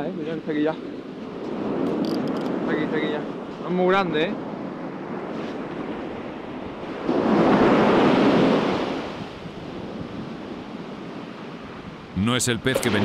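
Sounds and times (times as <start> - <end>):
wind on microphone: 0.0 - 12.1
waves washing on beach: 0.0 - 13.0.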